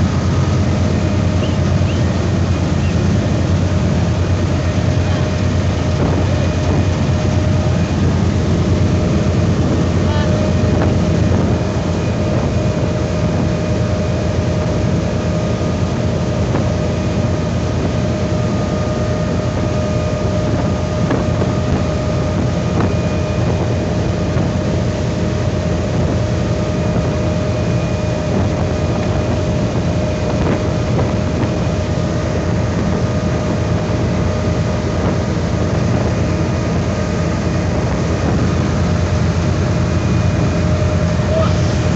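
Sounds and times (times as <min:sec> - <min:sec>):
motorboat engine droning: 0:00.0 - 0:41.9
water churning in wake: 0:00.0 - 0:41.9.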